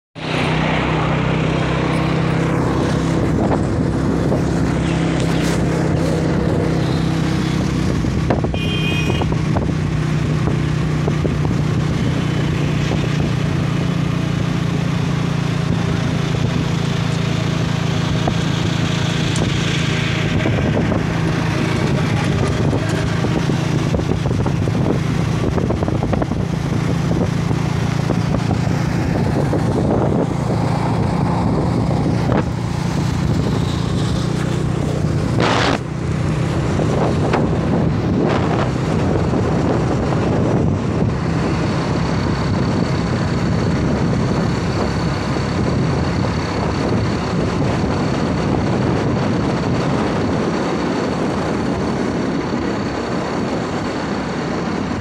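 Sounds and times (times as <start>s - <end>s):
motorcycle engine running: 0.2s - 55.0s
wind noise on microphone: 0.2s - 55.0s.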